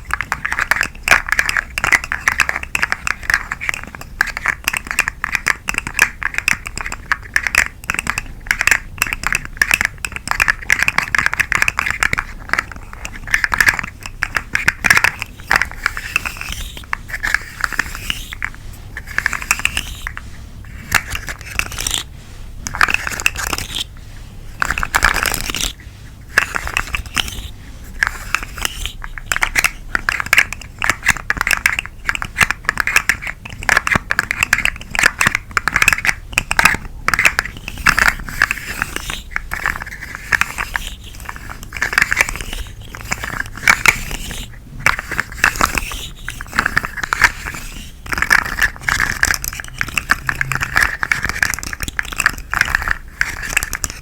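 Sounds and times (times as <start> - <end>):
plastic toy crackling and crinkling: 0.0 - 54.0.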